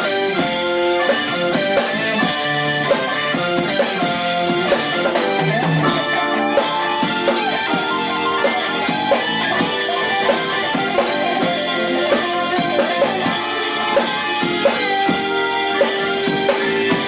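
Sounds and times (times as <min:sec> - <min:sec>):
bending lead guitar note: 0:00.0 - 0:17.0
jazz fusion band playing: 0:00.0 - 0:17.0.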